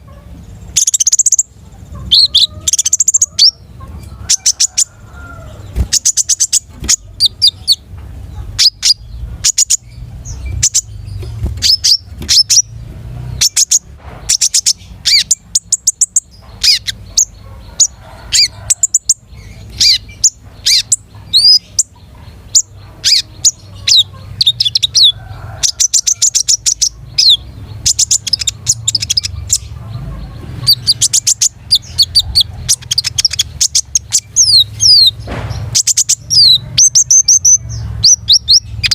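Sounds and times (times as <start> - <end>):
songbird chirping trills: 0.0 - 38.9.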